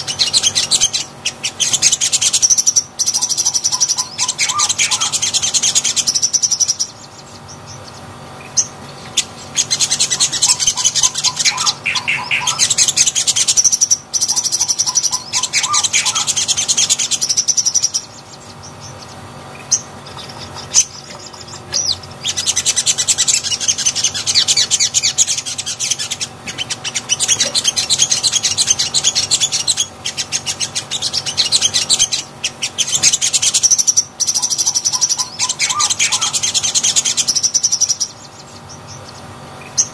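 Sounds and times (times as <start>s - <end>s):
sunbird high twittering: 0.0s - 39.9s.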